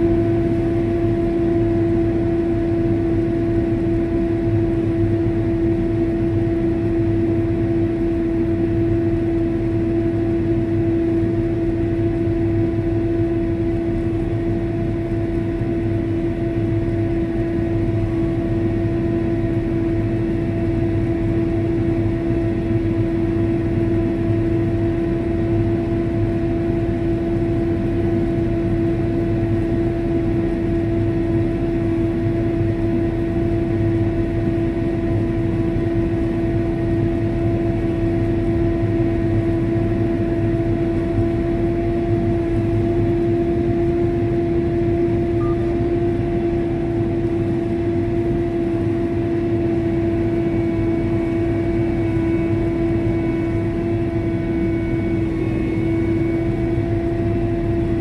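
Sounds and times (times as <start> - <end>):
engine drone inside cab: 0.0 - 58.0.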